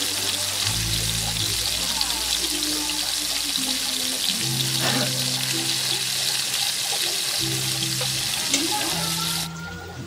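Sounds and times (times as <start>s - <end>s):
tofu sizzling in hot oil: 0.0s - 9.5s
background music: 0.0s - 10.0s.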